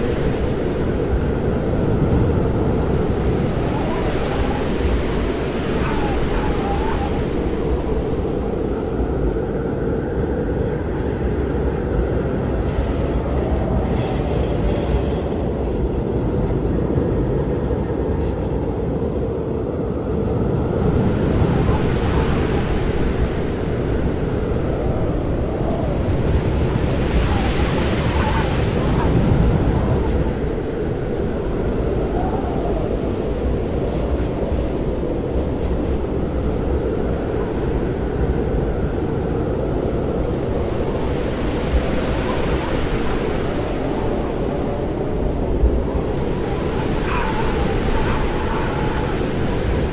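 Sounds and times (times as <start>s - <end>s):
wind buffeting the microphone: 0.0s - 49.9s.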